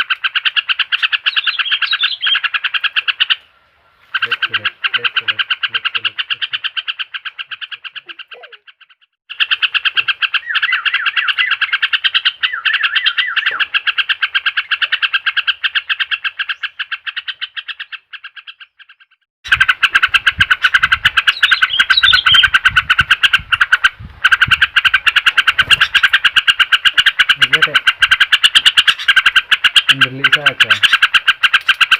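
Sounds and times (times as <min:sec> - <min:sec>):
bird song of high chirps: 0:00.2 - 0:03.4, 0:04.2 - 0:19.2, 0:20.6 - 0:31.9.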